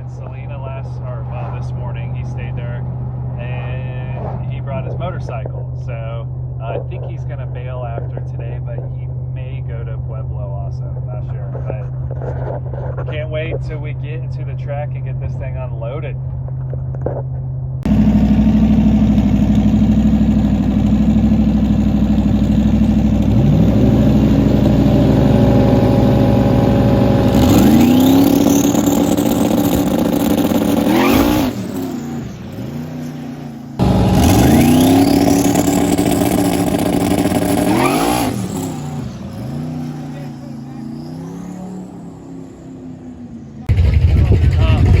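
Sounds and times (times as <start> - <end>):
race car engine accelerating: 0.0 - 45.0
turbo whine: 0.0 - 45.0.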